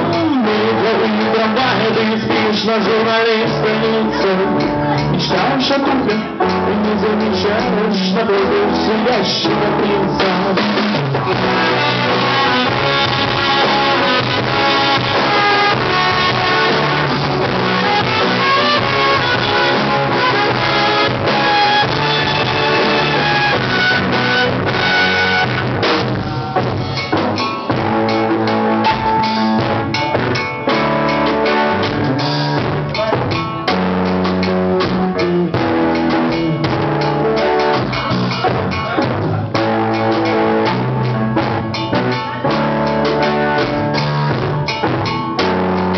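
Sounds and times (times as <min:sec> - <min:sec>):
bass guitar: 0:00.0 - 0:45.9
drum kit beat: 0:00.0 - 0:45.9
electric guitar: 0:00.0 - 0:45.9.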